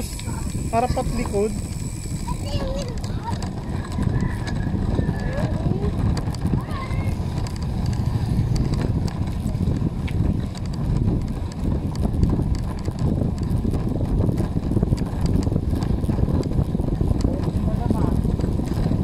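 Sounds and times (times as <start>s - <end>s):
bicycle tyres rumbling on concrete: 0.0s - 19.0s
light clicks and rattles: 0.0s - 19.0s
wind buffeting microphone: 0.0s - 19.0s.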